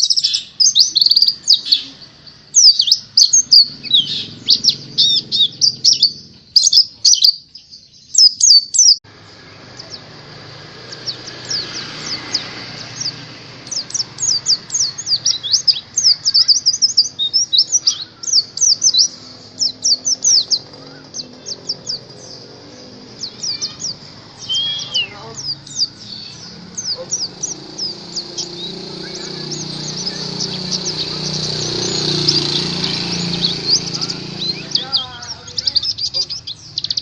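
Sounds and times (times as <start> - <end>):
bird chirping song: 0.0 - 37.0.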